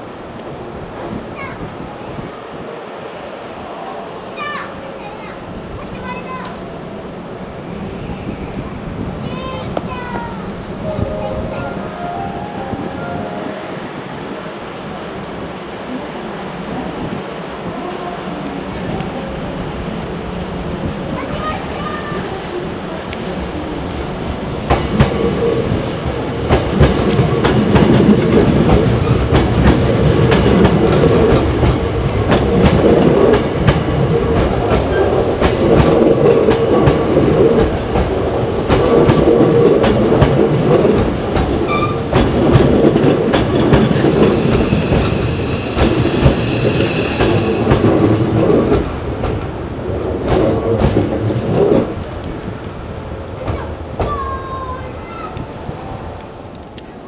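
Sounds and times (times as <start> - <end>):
train wheels clicking over rail joints: 5.2 - 11.7, 16.5 - 57.0
electric train running: 5.2 - 53.9.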